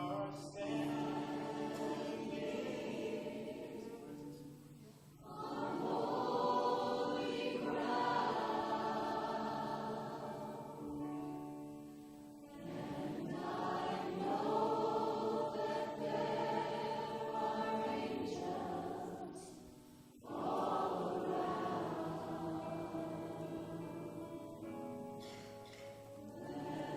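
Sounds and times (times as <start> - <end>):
congregation singing worship song: 0.0 - 26.9.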